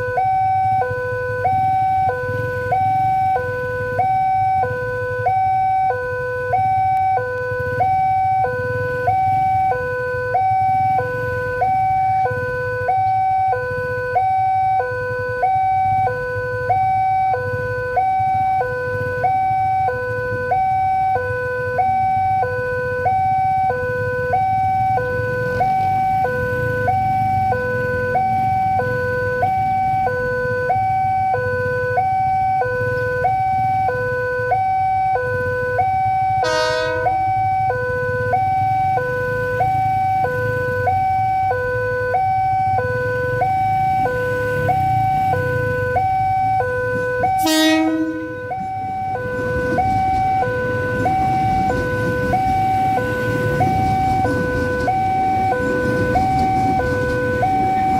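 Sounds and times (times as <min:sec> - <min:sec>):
level crossing two-tone alarm: 0:00.0 - 0:57.9.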